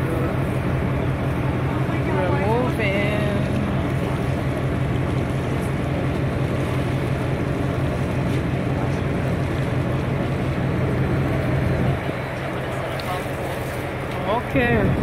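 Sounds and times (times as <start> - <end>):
boat engine droning: 0.0 - 15.0
rush of wind and water: 0.0 - 15.0.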